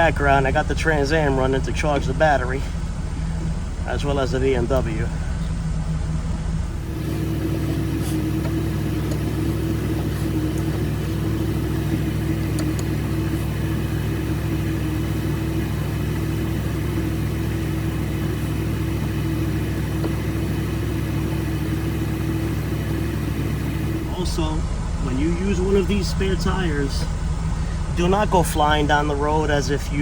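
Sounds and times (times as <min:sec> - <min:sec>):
car engines idling: 0:00.0 - 0:30.0.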